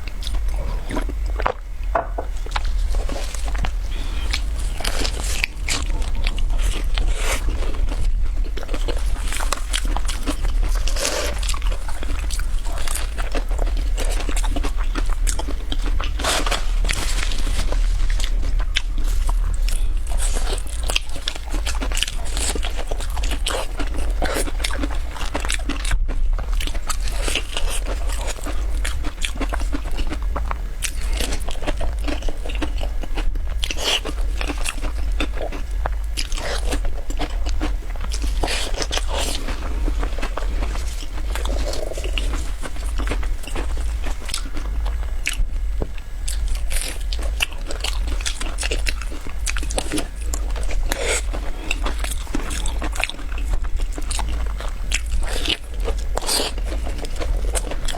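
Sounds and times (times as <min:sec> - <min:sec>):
crunchy biscuit chewing: 0:00.0 - 0:57.9
steady low hum: 0:00.0 - 0:57.9.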